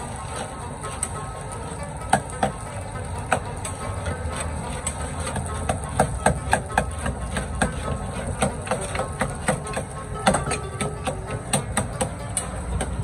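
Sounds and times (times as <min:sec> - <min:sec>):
metal ladle scraping a wok: 0:00.0 - 0:13.0.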